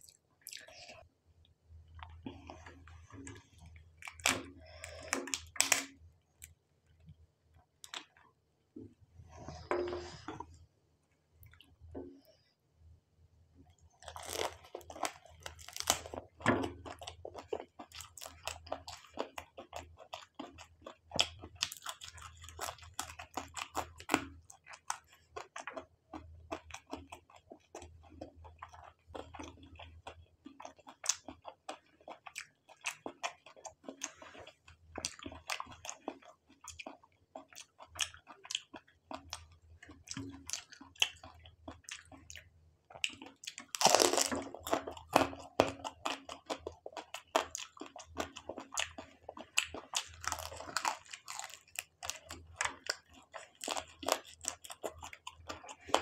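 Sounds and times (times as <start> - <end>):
chewing and crunching fried food: 0.0 - 8.4, 13.6 - 56.0.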